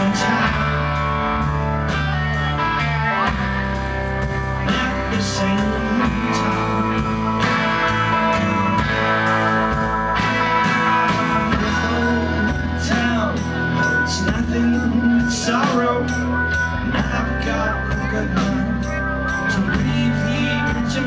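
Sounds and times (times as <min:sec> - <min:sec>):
bass guitar: 0:00.0 - 0:21.0
drum kit beat: 0:00.0 - 0:21.0
electric guitars: 0:00.0 - 0:21.0.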